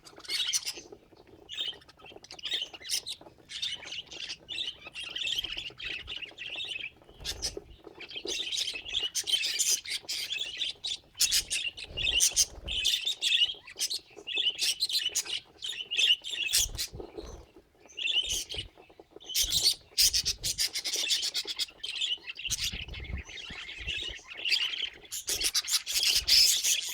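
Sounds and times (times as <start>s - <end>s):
budgerigars chirping: 0.0s - 26.9s.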